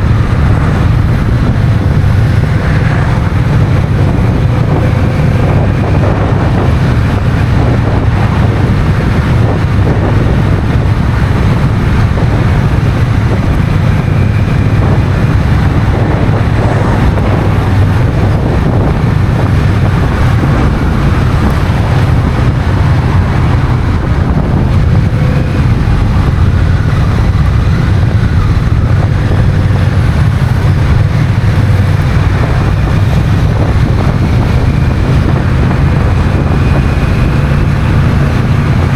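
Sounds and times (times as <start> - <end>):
motorcycle engine running: 0.0 - 38.9
wind on camera microphone: 0.0 - 38.9.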